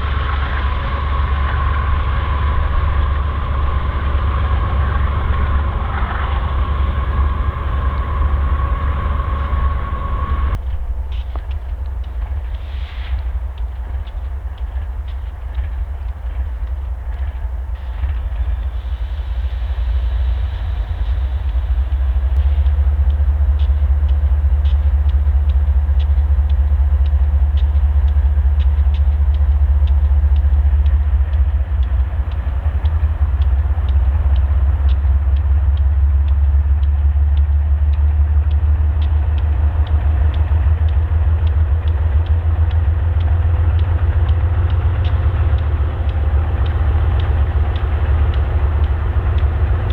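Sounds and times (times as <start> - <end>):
wheel clicks on rails: 0.0 - 12.6, 22.3 - 49.9
freight train rumbling: 0.0 - 49.9.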